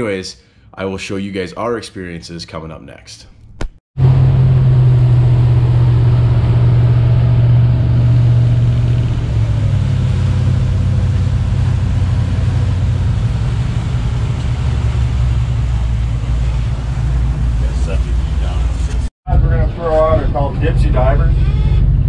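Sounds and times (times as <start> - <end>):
boat engine droning: 4.0 - 22.0.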